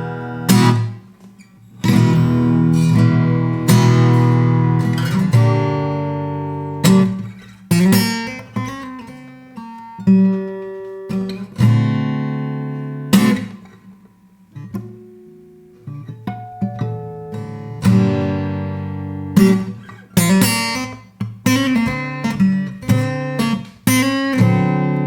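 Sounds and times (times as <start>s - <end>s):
picked guitar notes: 0.0s - 13.5s, 15.8s - 25.0s
acoustic guitar chords strummed: 0.0s - 25.0s.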